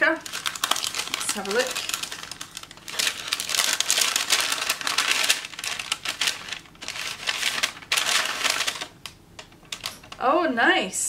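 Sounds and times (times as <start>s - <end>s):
paper rustling and crinkling: 0.2s - 10.2s.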